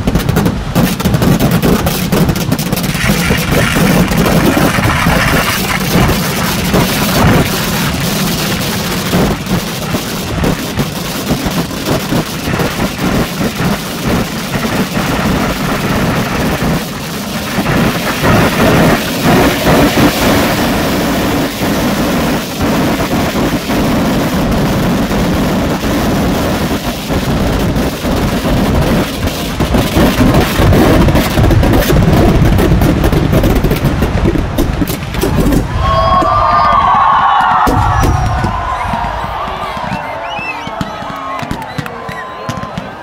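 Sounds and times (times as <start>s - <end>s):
firecracker explosions and crackling: 0.0s - 43.0s.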